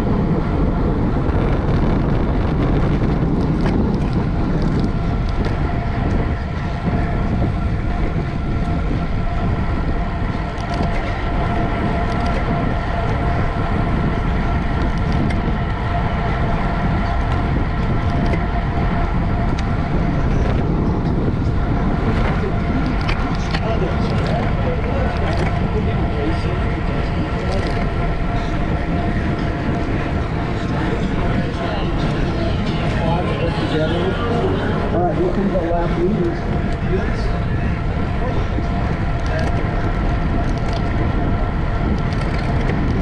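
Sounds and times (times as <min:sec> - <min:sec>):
bicycle tyre and drivetrain noise: 0:00.0 - 0:43.0
steady whine: 0:00.0 - 0:43.0
wind rushing over microphone: 0:00.0 - 0:43.0.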